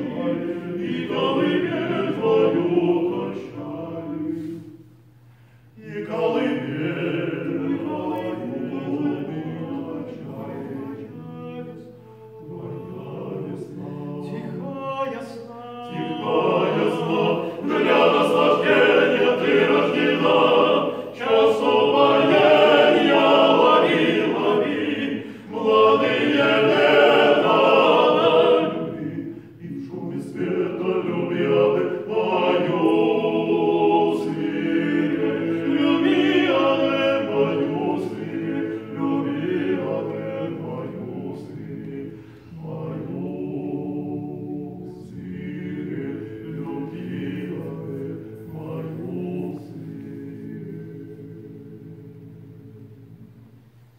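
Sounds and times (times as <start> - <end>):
male vocal quartet singing a cappella: 0.0 - 53.4.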